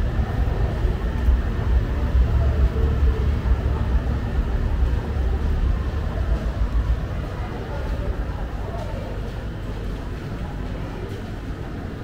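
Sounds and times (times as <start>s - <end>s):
city street rumble: 0.0s - 12.0s.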